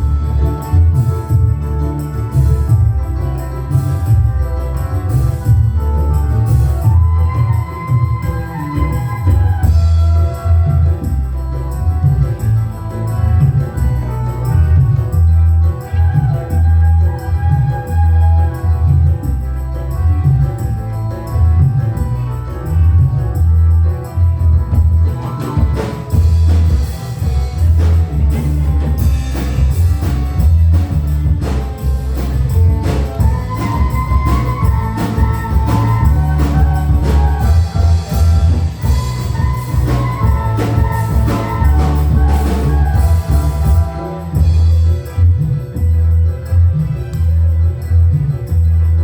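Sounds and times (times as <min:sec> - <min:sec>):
bass and drum beat: 0:00.0 - 0:49.0
higher melody line: 0:00.0 - 0:49.0
keyboard: 0:00.0 - 0:49.0
live band playing: 0:00.0 - 0:49.0.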